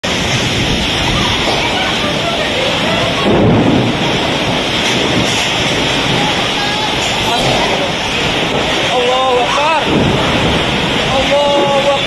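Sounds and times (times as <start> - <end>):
heavy rain: 0.0 - 12.0
strong wind: 0.0 - 12.0.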